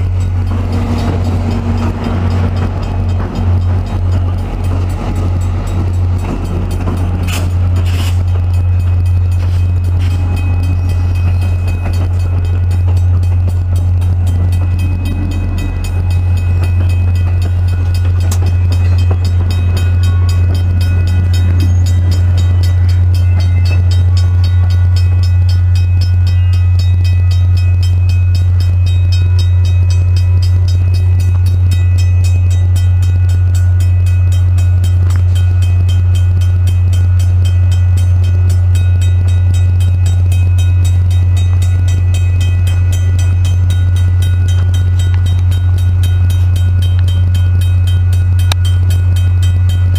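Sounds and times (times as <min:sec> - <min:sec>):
train low drone: 0:00.0 - 0:49.9.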